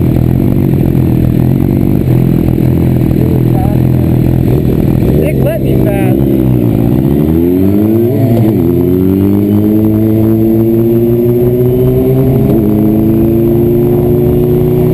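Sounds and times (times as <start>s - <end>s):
motorcycle engine accelerating: 0.0s - 14.9s.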